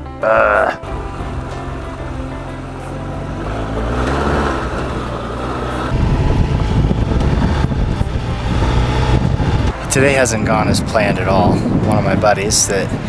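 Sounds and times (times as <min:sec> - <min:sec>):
motorcycle engine running: 0:00.8 - 0:13.0.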